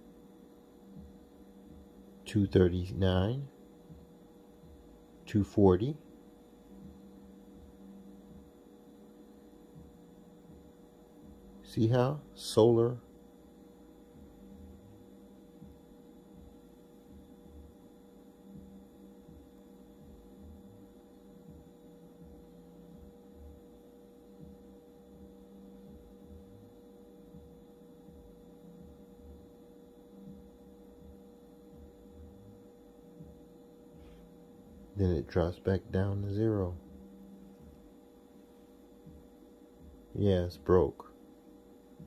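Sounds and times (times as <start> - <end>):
faint electrical hum: 0.0 - 42.0.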